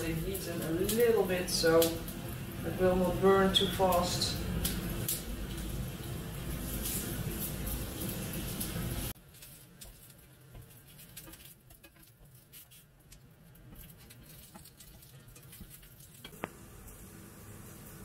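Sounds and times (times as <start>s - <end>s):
cakes frying in hot oil: 0.0s - 18.0s.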